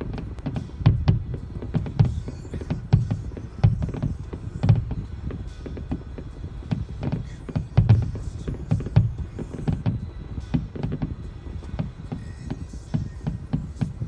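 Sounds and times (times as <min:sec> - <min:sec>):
fireworks booms and cracks: 0:00.0 - 0:14.0.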